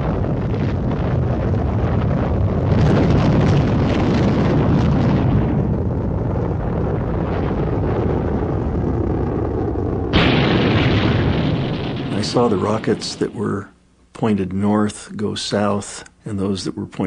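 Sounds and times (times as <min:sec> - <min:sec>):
rocket exhaust rumble: 0:00.0 - 0:13.8.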